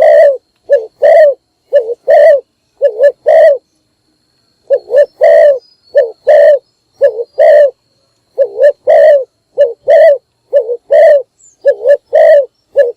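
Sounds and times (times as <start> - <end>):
dove cooing: 0.0 - 3.7, 4.7 - 12.9.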